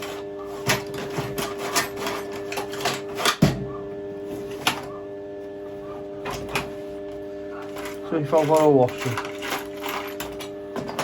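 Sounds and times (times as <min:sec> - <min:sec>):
welder electrical hum: 0:00.0 - 0:11.0.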